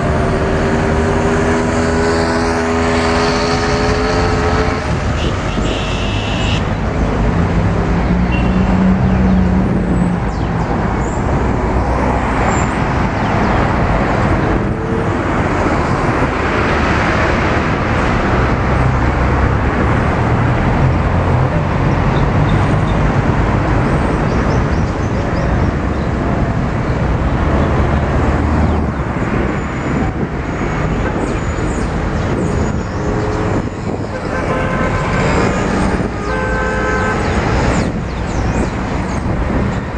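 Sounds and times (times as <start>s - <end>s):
cars driving past: 0.0s - 39.9s.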